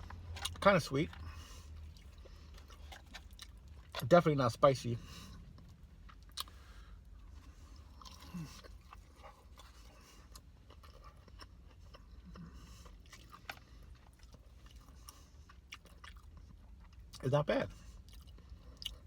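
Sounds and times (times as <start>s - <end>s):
faint close-up chewing crunches: 0.0s - 19.0s.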